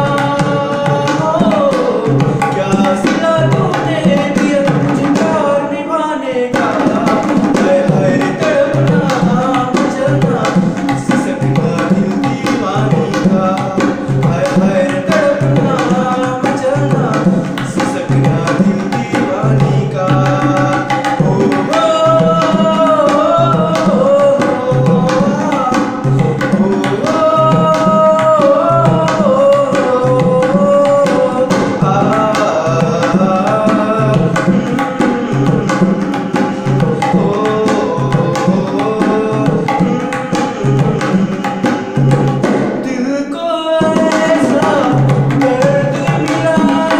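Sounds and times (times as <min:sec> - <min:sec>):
man singing: 0:00.0 - 0:46.9
tabla drumming: 0:00.0 - 0:46.9.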